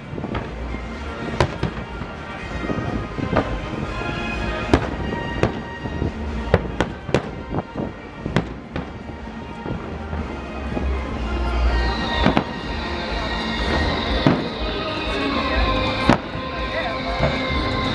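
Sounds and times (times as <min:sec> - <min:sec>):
fireworks bangs: 0:00.0 - 0:11.1, 0:11.9 - 0:17.9.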